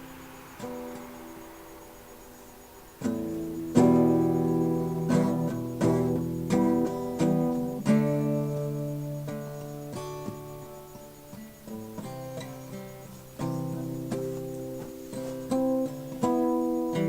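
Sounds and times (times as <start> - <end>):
acoustic guitar strums: 0.0 - 17.0.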